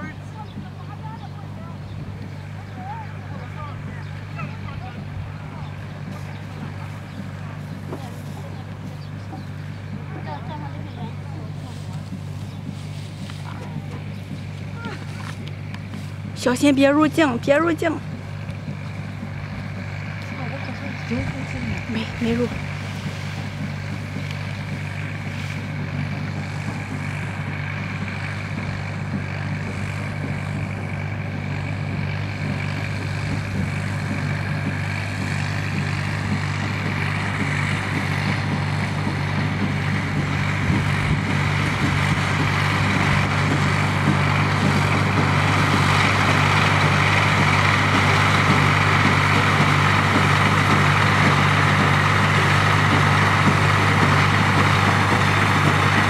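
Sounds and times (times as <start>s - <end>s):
baler engine droning: 0.0s - 56.0s.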